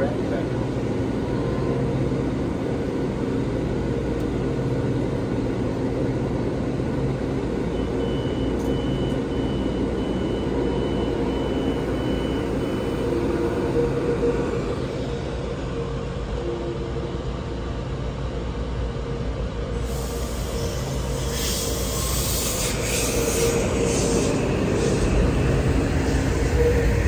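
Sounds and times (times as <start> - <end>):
train rumbling: 0.0 - 27.0.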